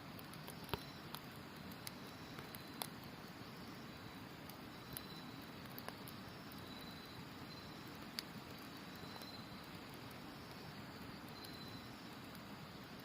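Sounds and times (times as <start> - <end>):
campfire crackling: 0.0 - 13.0
insects trilling: 0.2 - 13.0.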